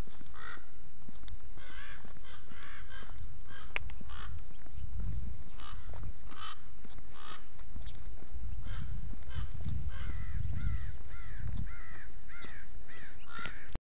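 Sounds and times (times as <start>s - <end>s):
low rumble: 1.6s - 13.3s.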